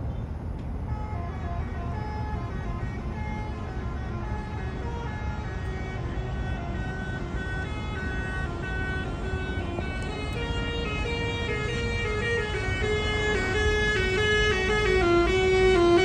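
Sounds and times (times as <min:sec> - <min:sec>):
low engine and exhaust rumble: 0:00.0 - 0:16.0
multi-tone bus horn tune: 0:00.8 - 0:16.0.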